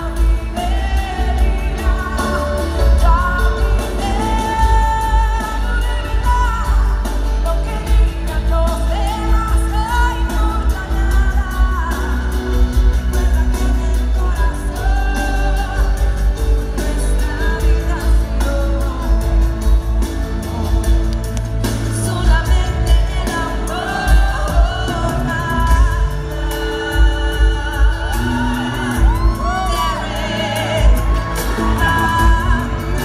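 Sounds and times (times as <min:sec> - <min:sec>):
band with heavy bass beat: 0:00.0 - 0:33.0
woman singing into microphone: 0:00.0 - 0:33.0.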